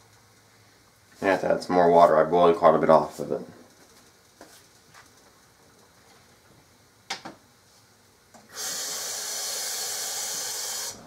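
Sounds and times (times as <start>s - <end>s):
steady hiss: 0.0s - 6.7s, 7.6s - 11.0s.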